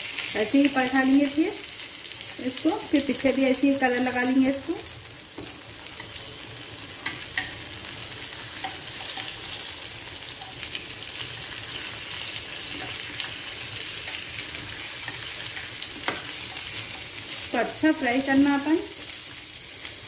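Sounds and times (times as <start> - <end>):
chicken sizzling in a grill pan: 0.0 - 20.0.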